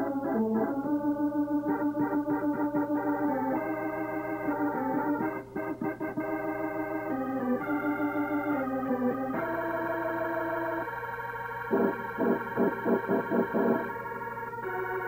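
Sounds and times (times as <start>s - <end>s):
organ playing held chords: 0.0s - 15.0s.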